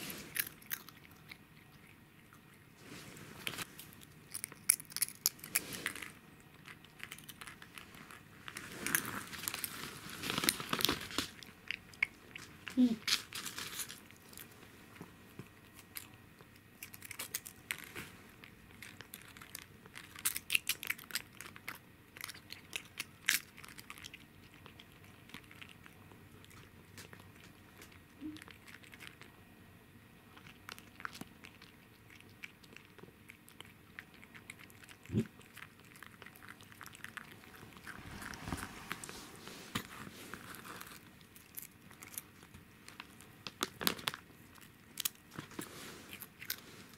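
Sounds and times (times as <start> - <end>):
cat crunching food: 0.0 - 29.5, 30.2 - 46.9.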